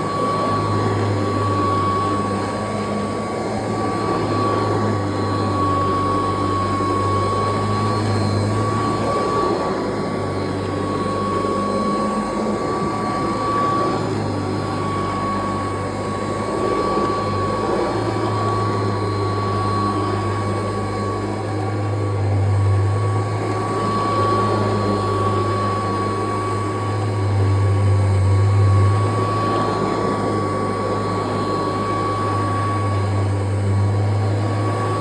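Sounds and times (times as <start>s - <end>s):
upright vacuum cleaner running: 0.0s - 35.0s.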